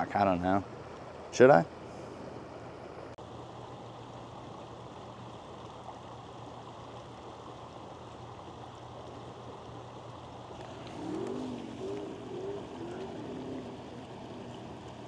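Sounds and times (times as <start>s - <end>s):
low steady hum: 0.0s - 15.0s
creek running over rocks: 2.6s - 15.0s.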